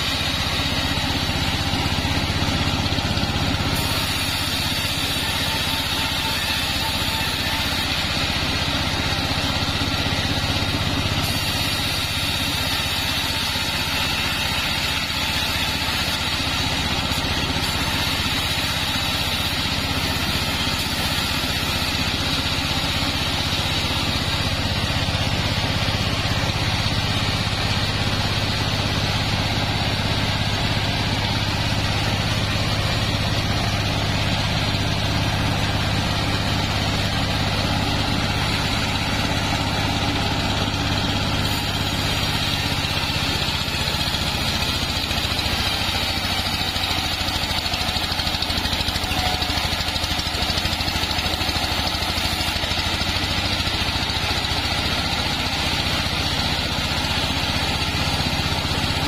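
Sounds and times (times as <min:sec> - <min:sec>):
bandsaw mill sawing wood: 0:00.0 - 0:59.0.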